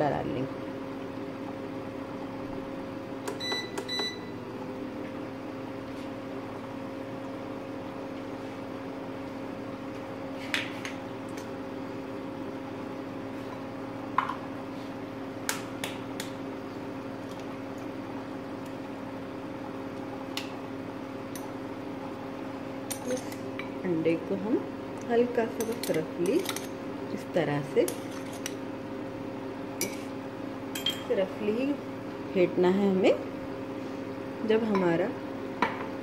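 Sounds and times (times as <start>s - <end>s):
kitchen appliance humming: 0.0s - 36.0s.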